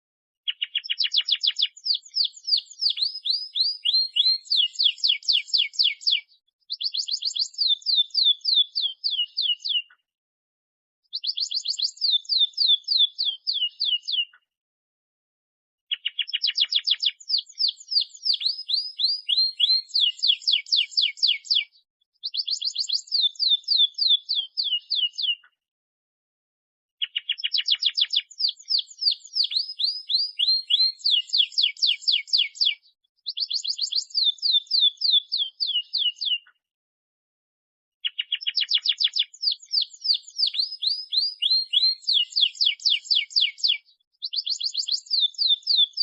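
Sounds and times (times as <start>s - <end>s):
canary singing rapid trills: 0.5s - 9.9s, 11.1s - 14.3s, 15.9s - 25.5s, 27.0s - 36.4s, 38.0s - 46.0s.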